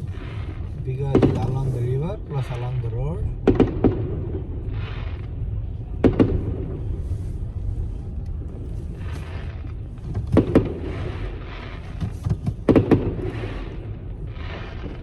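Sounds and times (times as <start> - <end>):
distant fireworks bangs: 0.0 - 7.1, 8.5 - 15.0
car interior rumble: 0.0 - 15.0.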